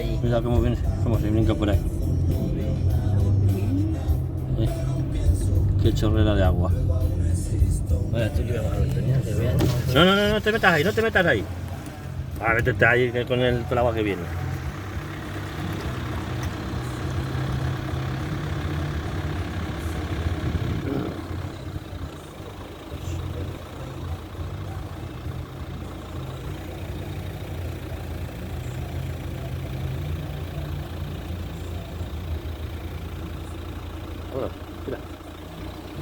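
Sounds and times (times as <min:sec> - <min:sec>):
vehicle engine running: 0:00.0 - 0:36.0.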